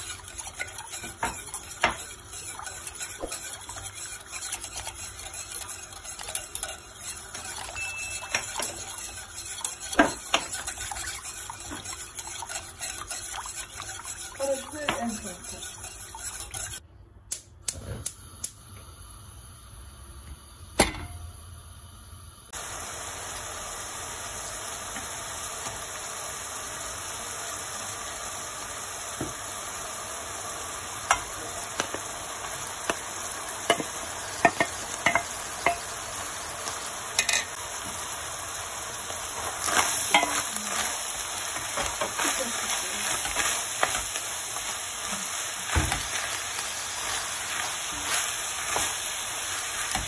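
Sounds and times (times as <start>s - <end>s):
meat sizzling in a pan: 0.0s - 15.6s, 21.6s - 50.0s.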